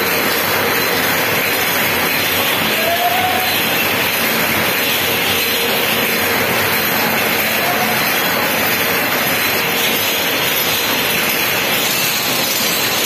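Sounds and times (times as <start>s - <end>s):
machine whirring and rattling: 0.0s - 13.0s.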